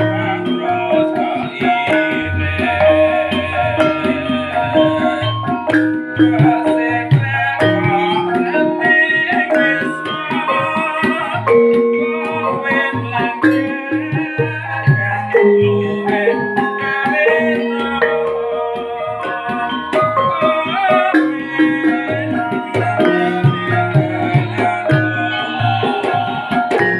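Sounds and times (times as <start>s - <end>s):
gamelan ensemble playing: 0.0s - 26.9s
metallophones ringing: 0.0s - 26.9s.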